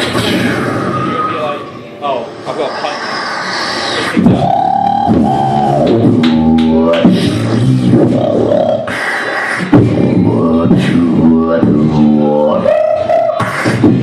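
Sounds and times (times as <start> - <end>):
wavering pitched vocal tones: 0.0 - 14.0.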